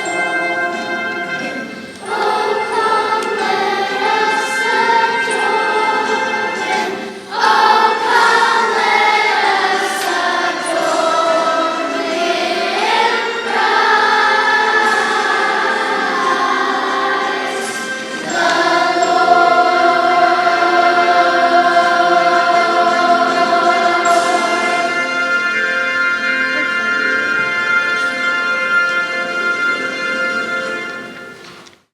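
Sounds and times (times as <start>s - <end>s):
church choir singing: 0.0s - 31.6s.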